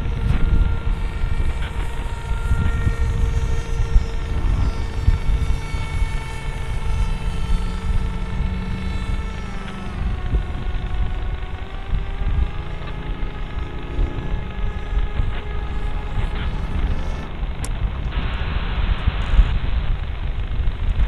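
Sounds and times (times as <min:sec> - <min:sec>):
electric propeller motor whining: 0:00.0 - 0:21.0
wind buffeting microphone: 0:00.0 - 0:21.0.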